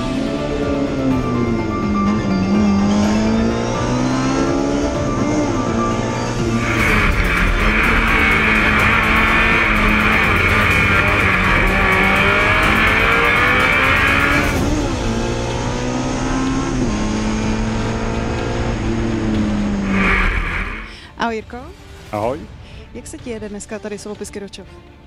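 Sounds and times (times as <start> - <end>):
racing car engine accelerating: 0.0 - 21.2
road and wind noise: 0.0 - 23.2.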